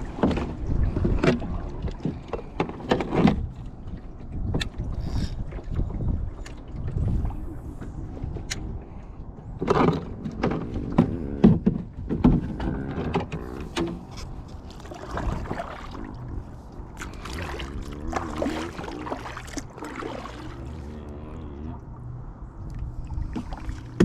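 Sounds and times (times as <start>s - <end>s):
paddle splashing and knocking: 0.0s - 7.2s, 9.6s - 21.1s, 23.0s - 24.0s
steady low rumble: 3.5s - 24.0s.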